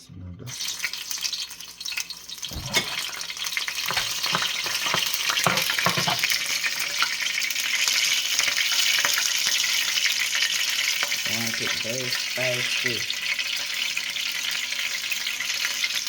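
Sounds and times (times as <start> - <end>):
oil sizzling in a pan: 0.5 - 16.0.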